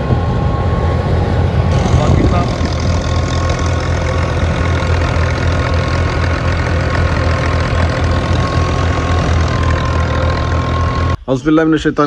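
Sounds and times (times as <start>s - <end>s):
thresher machine droning: 0.0s - 11.3s.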